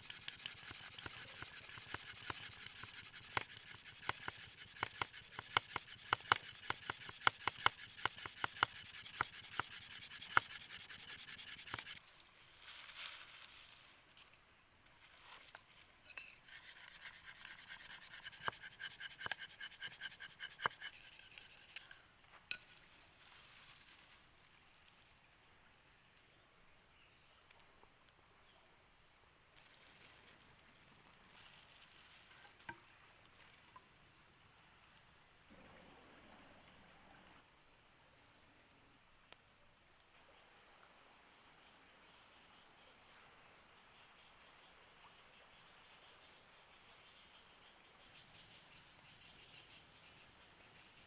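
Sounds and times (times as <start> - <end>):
faint insect chirping: 0.0 - 51.0
faint outdoor ambience: 0.0 - 51.0.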